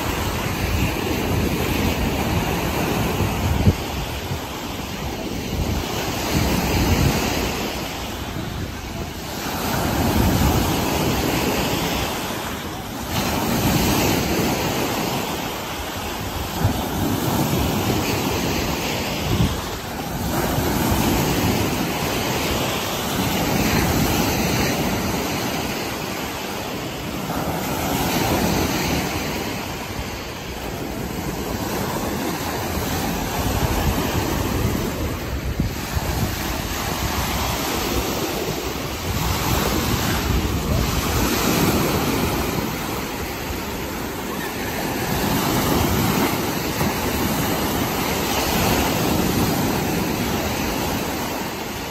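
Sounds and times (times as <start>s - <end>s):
small waves breaking on shore: 0.0s - 51.9s
wind rumbling on microphone: 0.0s - 51.9s.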